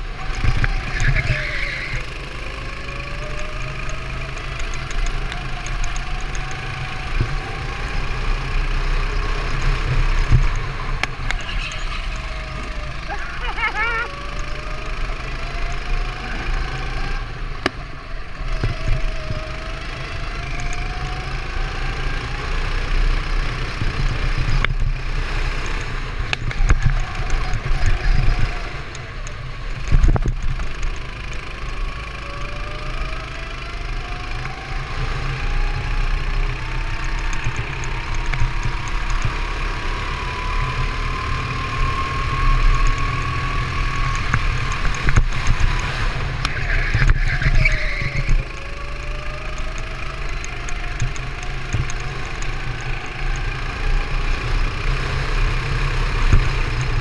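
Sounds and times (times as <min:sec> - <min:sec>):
go-kart engine accelerating: 0:00.0 - 0:57.0.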